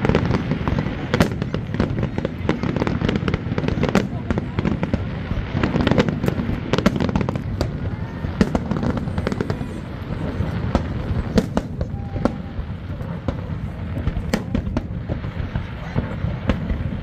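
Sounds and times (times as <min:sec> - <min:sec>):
fireworks bursting with bangs: 0:00.0 - 0:17.0.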